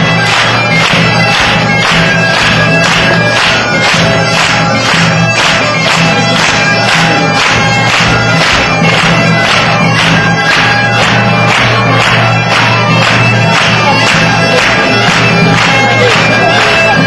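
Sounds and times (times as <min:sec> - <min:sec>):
bagpipe playing a lively tune: 0:00.0 - 0:17.0
drum beat: 0:00.0 - 0:17.0.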